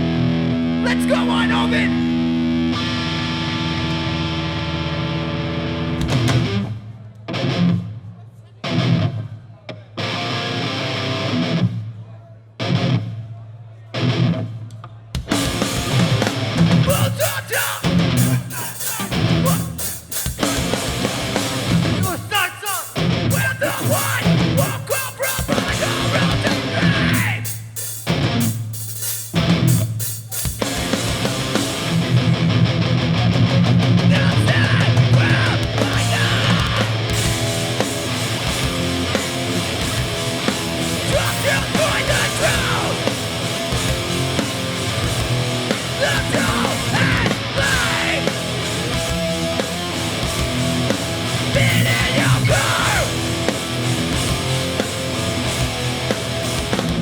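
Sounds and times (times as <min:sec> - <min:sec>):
punk band playing live: 0:00.0 - 0:07.9, 0:15.2 - 0:57.0.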